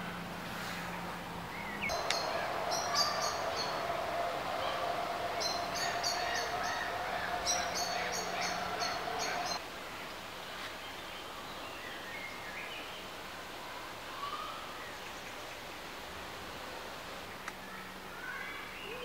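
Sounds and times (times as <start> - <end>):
songbird singing: 0.0 - 16.0, 17.2 - 19.0
steady faint hum: 0.0 - 19.0.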